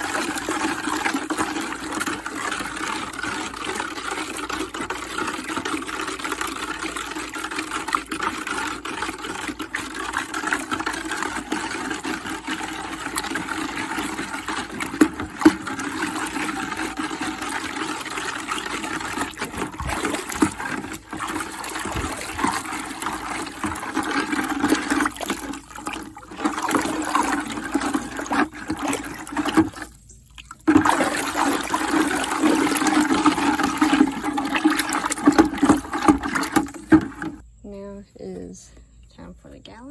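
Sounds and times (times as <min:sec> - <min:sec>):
water sloshing in plastic bucket: 0:00.0 - 0:37.9.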